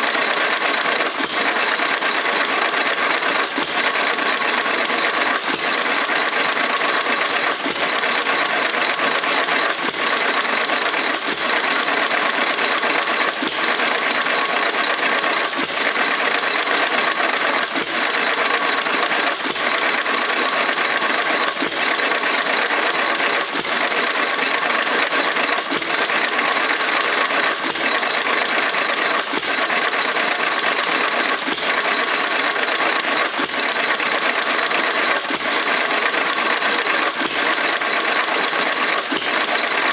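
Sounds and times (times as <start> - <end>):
hit-and-miss engine firing: 0.0 - 39.9.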